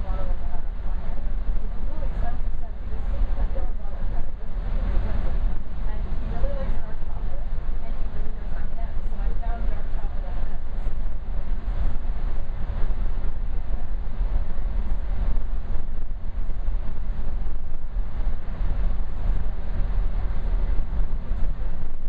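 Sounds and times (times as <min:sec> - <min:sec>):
train coach rumbling on rails: 0:00.0 - 0:22.0.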